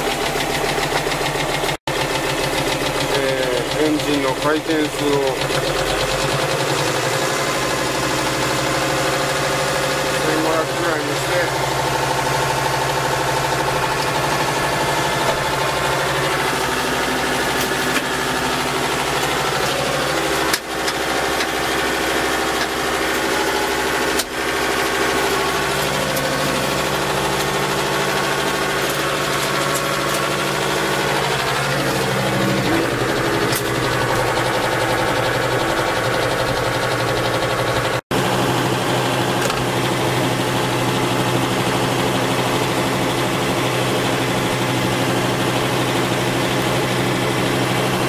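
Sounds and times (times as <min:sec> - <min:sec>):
diesel tractor engine running: 0:00.0 - 0:48.0
snow blower throwing snow: 0:03.0 - 0:48.0.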